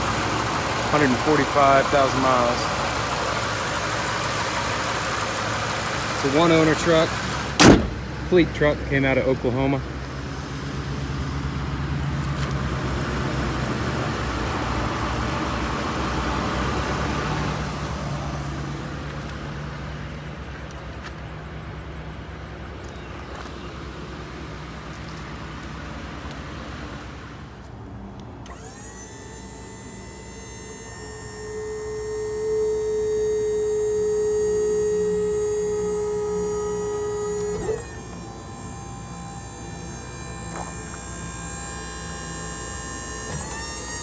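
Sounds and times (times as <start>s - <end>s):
truck engine idling: 0.0s - 44.0s.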